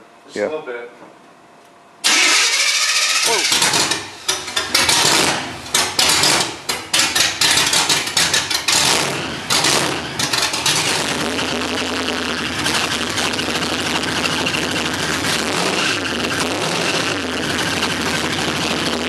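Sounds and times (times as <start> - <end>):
sharp exhaust cracks: 2.0 - 19.0
car engine revving and idling: 2.1 - 19.0.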